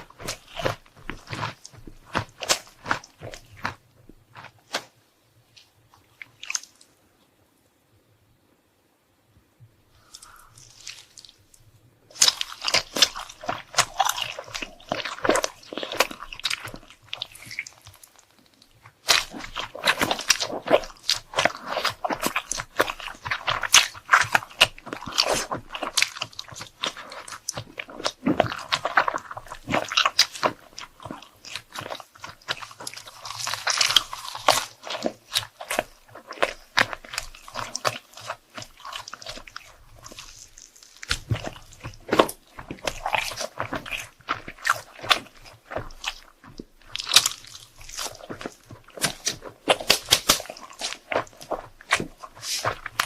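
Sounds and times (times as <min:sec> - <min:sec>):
crunchy chewing of crisp food: 0:00.0 - 0:04.9, 0:05.6 - 0:07.0, 0:10.0 - 0:53.0.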